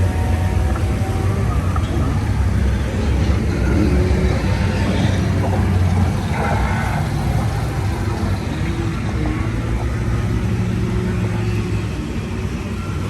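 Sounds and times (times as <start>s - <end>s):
machinery rumble and hum: 0.0s - 13.0s.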